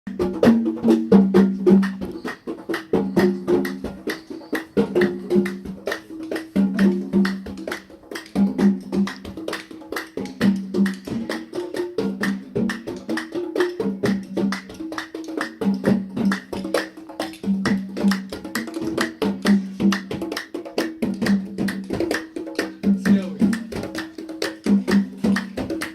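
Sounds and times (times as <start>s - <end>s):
music with fast percussion beat: 0.1s - 25.9s.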